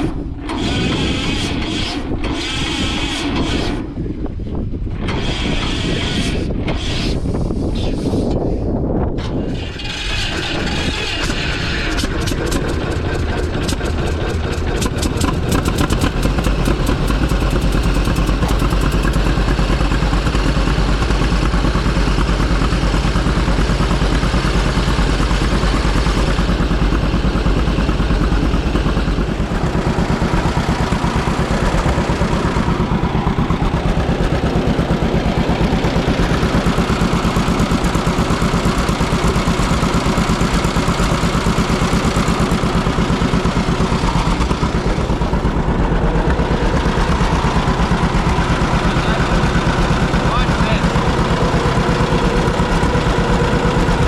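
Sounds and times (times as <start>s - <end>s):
diesel engine running: 8.8s - 54.0s.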